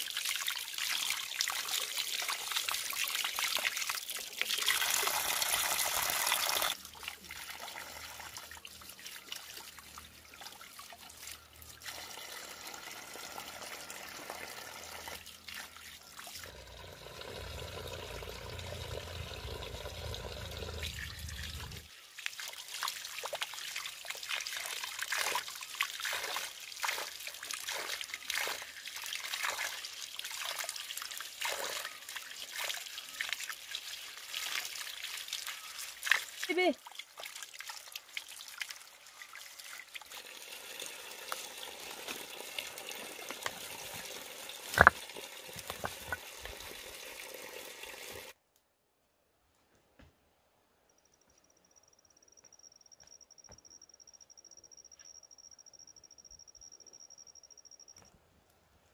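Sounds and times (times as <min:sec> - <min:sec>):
water trickling and splashing: 0:00.0 - 0:48.4.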